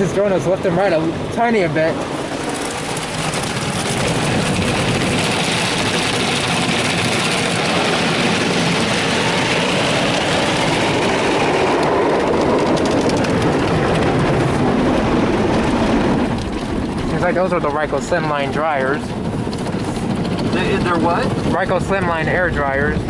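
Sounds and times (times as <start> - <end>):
car wash brushes and water: 0.0 - 22.8.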